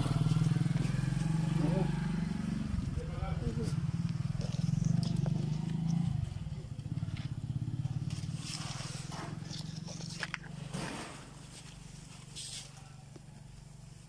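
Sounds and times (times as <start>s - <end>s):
engine running: 0.0s - 12.4s
rustling leaves and clothing: 0.0s - 14.0s.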